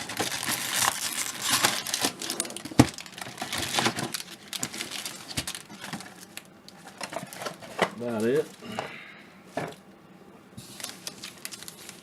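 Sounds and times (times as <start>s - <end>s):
wrapper crinkling: 0.0s - 8.6s, 10.6s - 12.0s.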